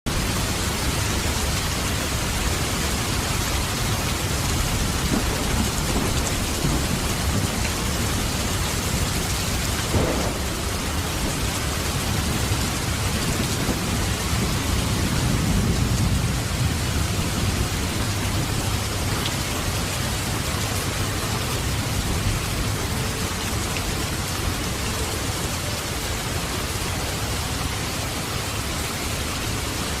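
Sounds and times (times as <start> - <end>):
heavy rain hissing: 0.1 - 30.0.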